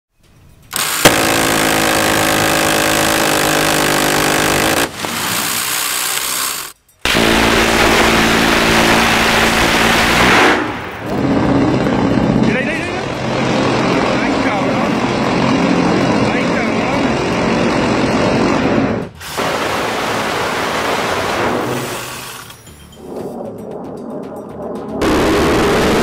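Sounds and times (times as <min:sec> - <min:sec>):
minigun firing bursts: 0:00.7 - 0:12.4, 0:13.1 - 0:22.5, 0:25.0 - 0:26.0.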